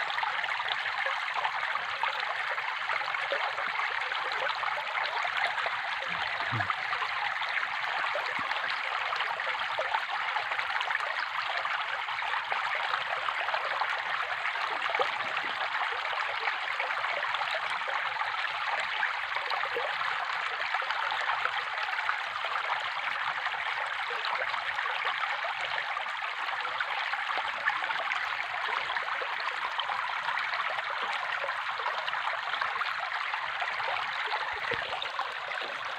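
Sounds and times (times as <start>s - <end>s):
water trickling: 0.0s - 35.9s.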